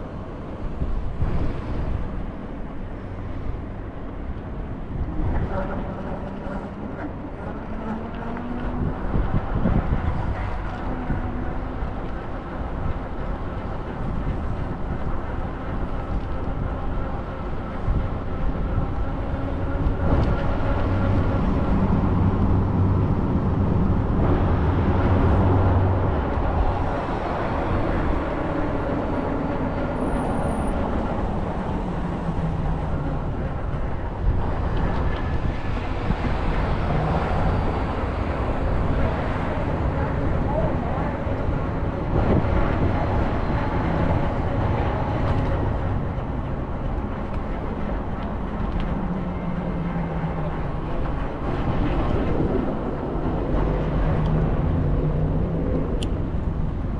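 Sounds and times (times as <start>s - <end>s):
bus rumble and road noise: 0.0s - 56.9s.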